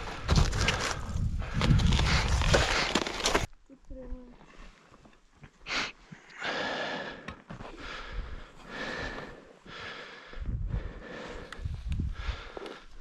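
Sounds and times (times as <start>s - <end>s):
person breathing heavily: 0.0s - 3.2s, 5.6s - 13.0s.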